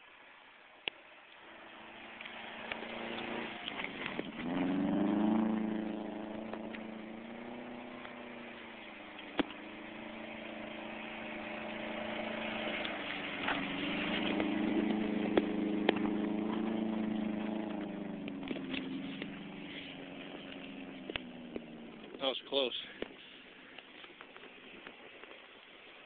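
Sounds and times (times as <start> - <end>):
car engine revving: 1.4 - 23.8.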